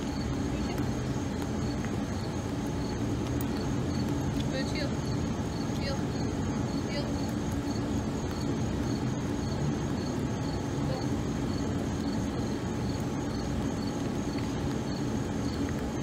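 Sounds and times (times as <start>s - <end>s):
insects chirping: 0.0s - 16.0s
low hum: 0.0s - 16.0s.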